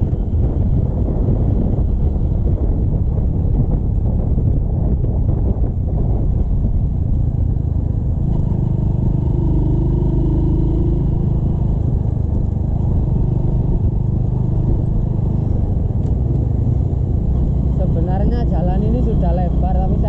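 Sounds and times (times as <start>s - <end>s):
motorcycle running: 0.0s - 20.0s.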